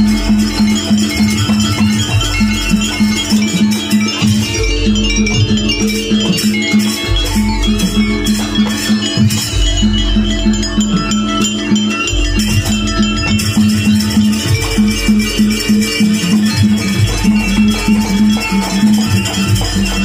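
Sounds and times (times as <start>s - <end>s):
jingling and clicking percussion: 0.0s - 20.0s
tuned percussion pulse: 0.0s - 20.0s.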